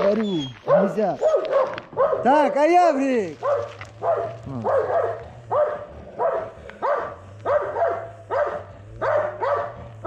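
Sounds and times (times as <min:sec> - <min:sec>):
dog barking: 0:00.6 - 0:02.7, 0:03.4 - 0:10.0.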